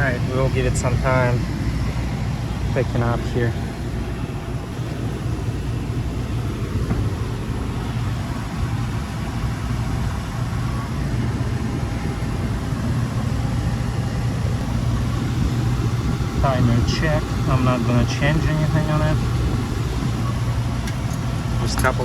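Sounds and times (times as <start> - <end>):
compressor low hum: 0.0 - 22.0
condenser fan whooshing: 0.0 - 22.0.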